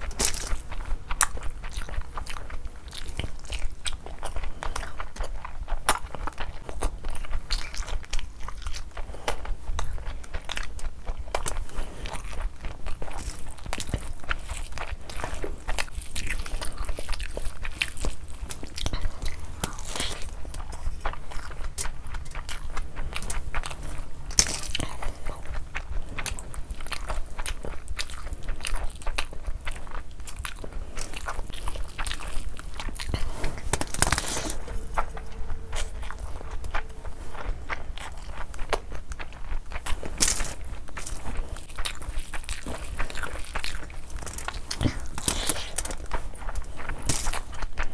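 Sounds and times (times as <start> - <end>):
close chewing with clicks: 0.0 - 47.9
fingers mixing rice on plate: 0.0 - 47.9
steady low hum: 0.0 - 47.9.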